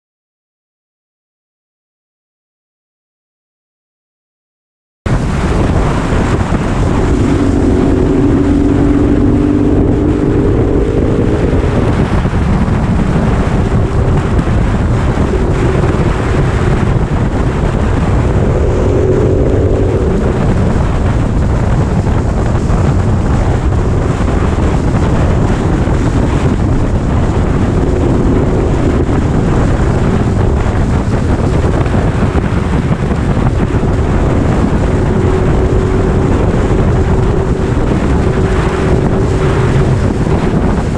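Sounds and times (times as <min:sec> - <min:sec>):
wind noise on microphone: 0:05.1 - 0:40.9
motorcycle engine: 0:05.3 - 0:40.9.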